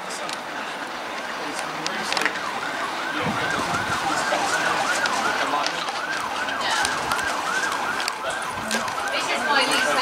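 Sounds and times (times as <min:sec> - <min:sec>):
emergency siren yelping: 0:00.6 - 0:10.0.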